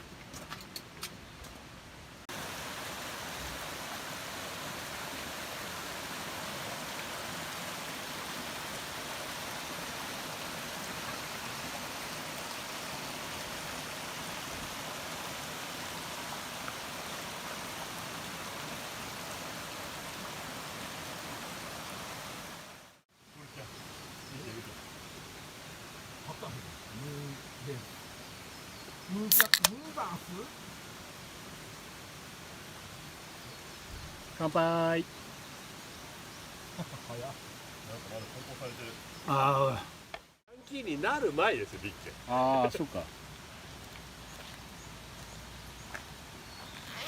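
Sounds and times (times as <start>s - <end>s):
mountain stream rushing: 2.2s - 27.0s, 29.3s - 47.0s.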